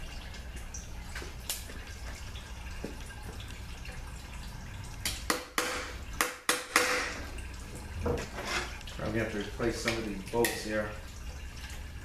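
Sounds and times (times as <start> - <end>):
fluid dripping: 0.0 - 12.0.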